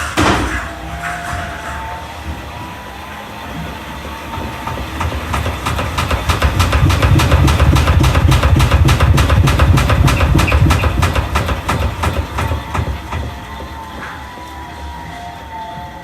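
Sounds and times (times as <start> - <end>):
rapid regular knocks: 0.0 - 14.8
washing machine drum rumbling: 0.0 - 14.8.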